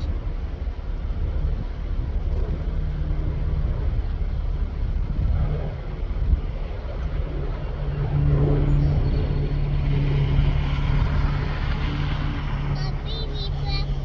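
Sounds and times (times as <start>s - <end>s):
airplane engine droning: 0.0s - 14.0s
low rumble: 0.0s - 14.0s.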